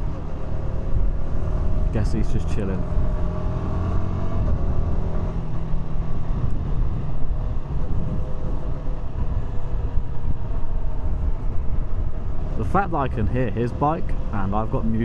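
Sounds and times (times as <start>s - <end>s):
motorcycle engine cruising: 0.0s - 15.0s
wind rumble on microphone: 0.0s - 15.0s.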